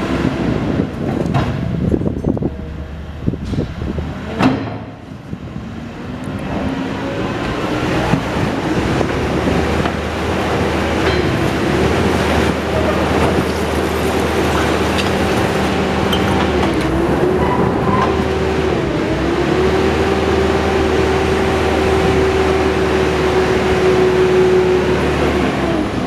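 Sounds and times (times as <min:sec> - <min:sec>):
demolition machine engine: 0:00.0 - 0:26.0.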